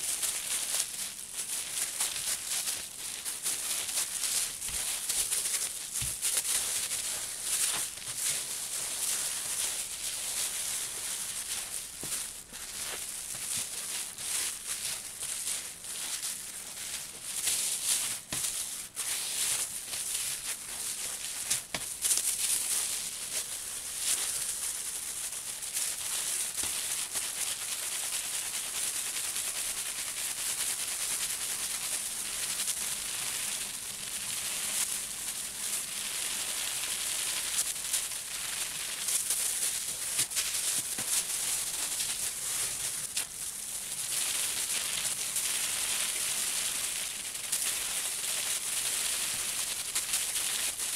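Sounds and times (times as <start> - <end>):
bubble wrap crackles: 0.0 - 50.9.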